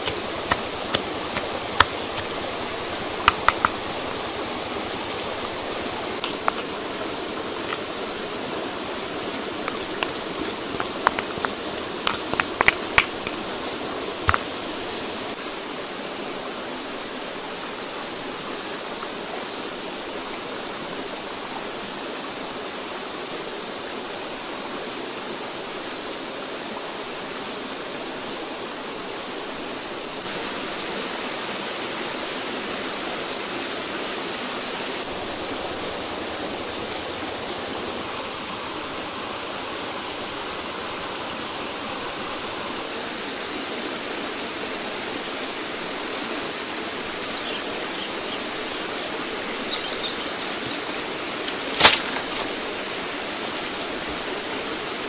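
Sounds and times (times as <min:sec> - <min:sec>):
rushing outdoor background noise: 0:00.0 - 0:55.0.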